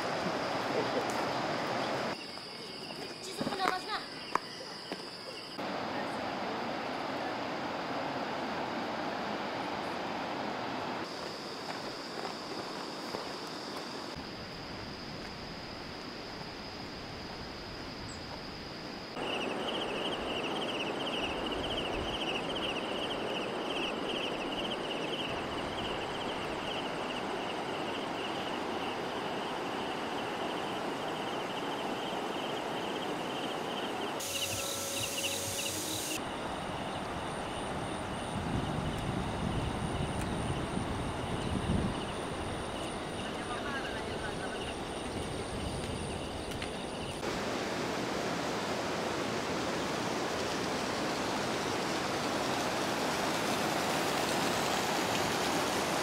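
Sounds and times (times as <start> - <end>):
insects trilling: 0.0 - 7.4, 11.0 - 56.0.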